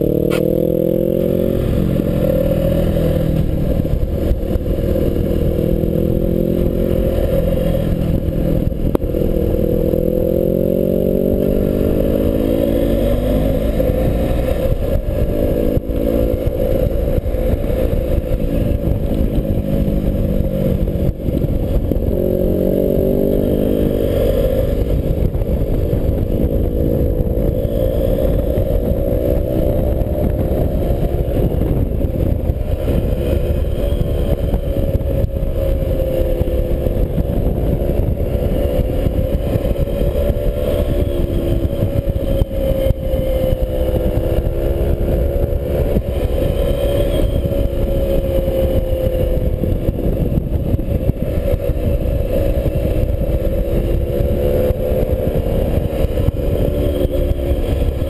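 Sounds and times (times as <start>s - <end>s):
motorcycle engine running: 0.0s - 58.0s
wind rumble on camera: 0.0s - 58.0s.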